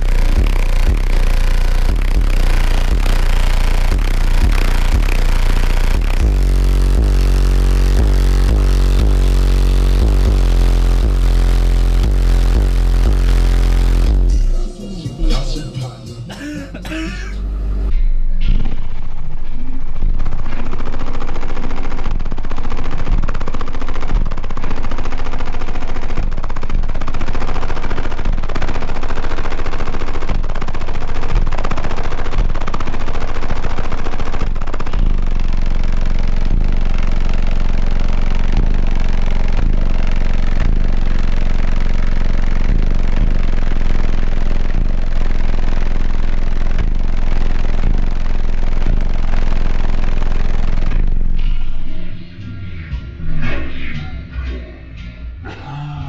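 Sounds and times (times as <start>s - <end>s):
distorted bass-heavy music: 0.0s - 56.0s.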